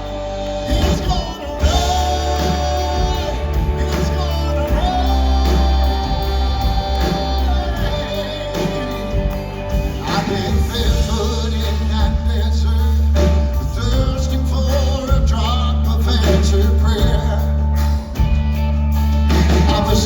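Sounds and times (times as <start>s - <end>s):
person singing: 0.0s - 17.9s, 19.3s - 20.0s
gospel band playing: 0.0s - 20.0s.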